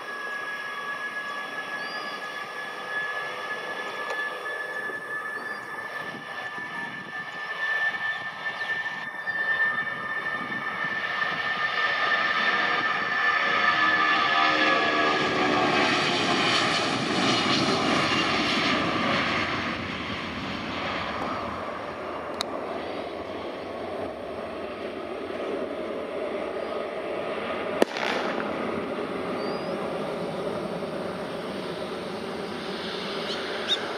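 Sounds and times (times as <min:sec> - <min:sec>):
jet engines roaring: 0:00.0 - 0:33.9.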